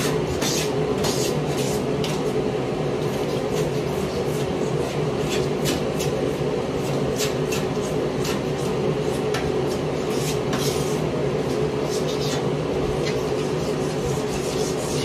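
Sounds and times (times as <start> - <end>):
hand scraper scraping bathtub: 0.0 - 2.3, 3.0 - 15.0
loud mechanical hum: 0.0 - 15.0.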